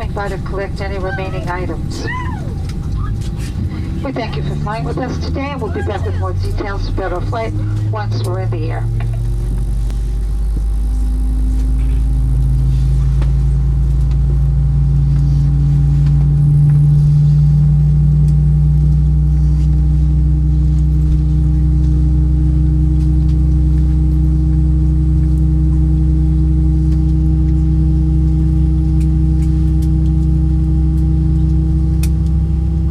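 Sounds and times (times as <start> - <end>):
jet engines humming in cabin: 0.0 - 32.9.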